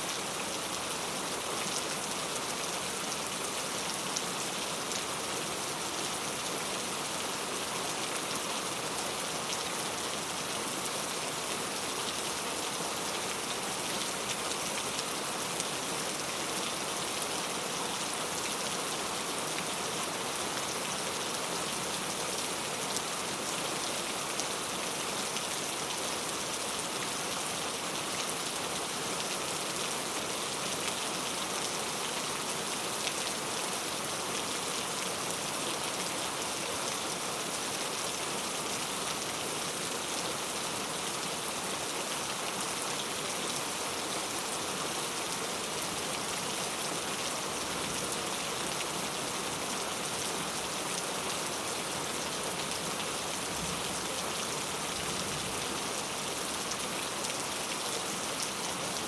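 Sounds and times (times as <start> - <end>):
heavy rain on street: 0.0 - 59.0.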